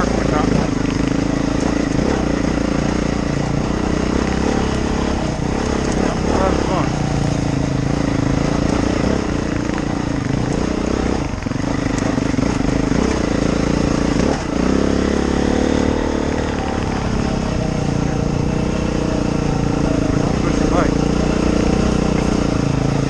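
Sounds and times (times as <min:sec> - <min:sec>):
off-road motorcycle engine revving: 0:00.0 - 0:23.0.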